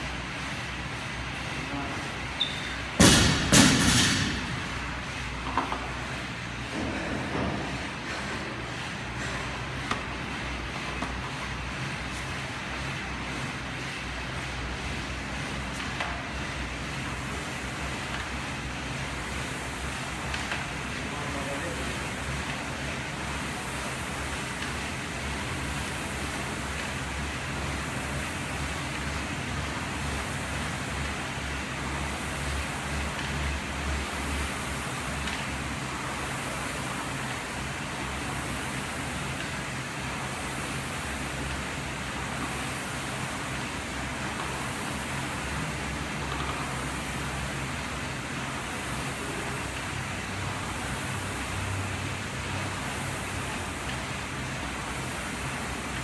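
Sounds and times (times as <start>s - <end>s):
rowing machine fan whooshing: 0.0s - 56.0s.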